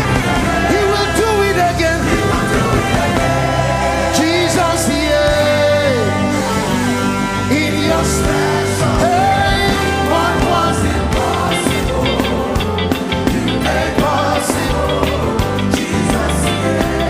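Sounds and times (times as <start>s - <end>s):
people singing: 0.0s - 17.0s
worship band playing: 0.0s - 17.0s.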